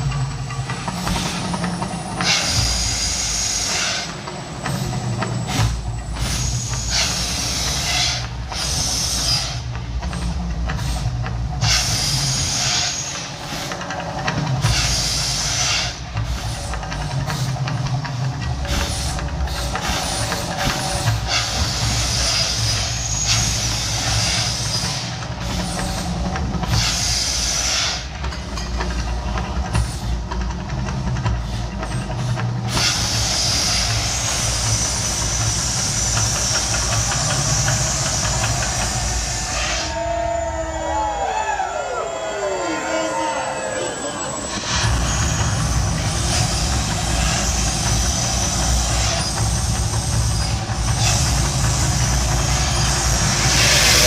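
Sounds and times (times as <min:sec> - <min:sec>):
gas flame jets hissing: 0:00.0 - 0:28.4, 0:31.1 - 0:40.1, 0:43.7 - 0:54.0.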